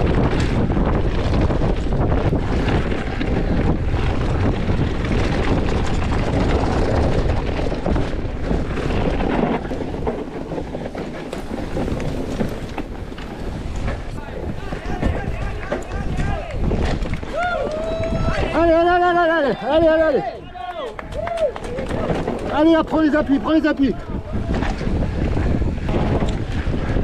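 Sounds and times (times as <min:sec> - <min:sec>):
bike clattering over bumps: 0:00.0 - 0:19.2, 0:19.9 - 0:27.0
tyres on dirt and stones: 0:00.0 - 0:27.0
wind buffeting microphone: 0:00.0 - 0:27.0.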